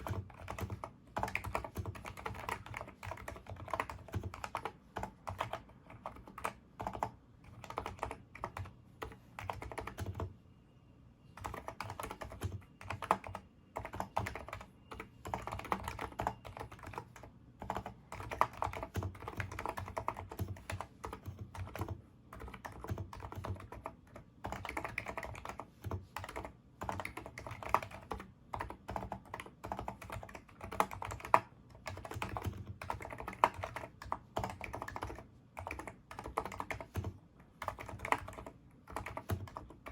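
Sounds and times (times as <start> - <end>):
keyboard typing: 0.0 - 10.4, 11.3 - 39.9.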